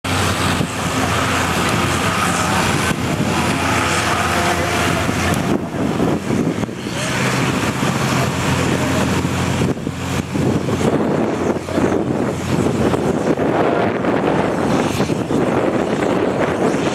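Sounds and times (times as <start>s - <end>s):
tractor diesel engine under load: 0.0s - 16.9s.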